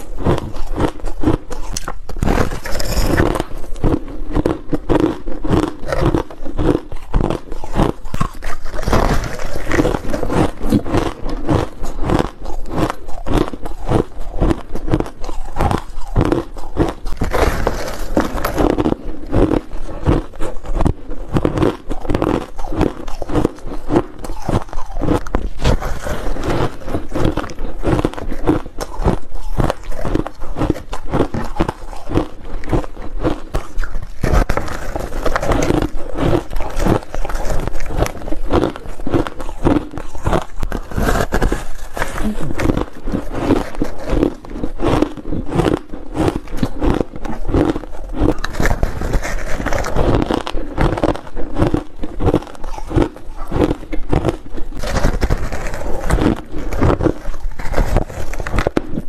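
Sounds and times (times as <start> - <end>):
crunching frozen ice: 0.0 - 59.0.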